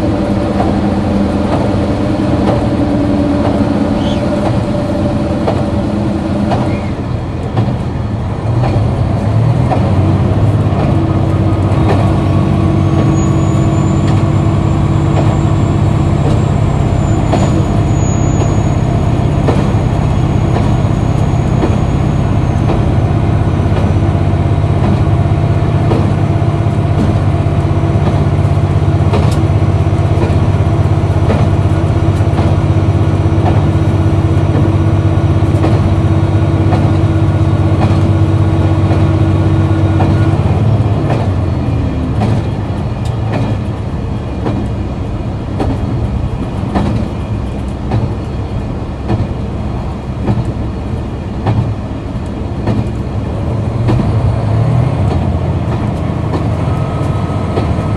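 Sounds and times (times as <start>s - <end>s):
diesel railcar engine running: 0.0s - 57.9s
wheels clicking on rails: 0.0s - 57.9s.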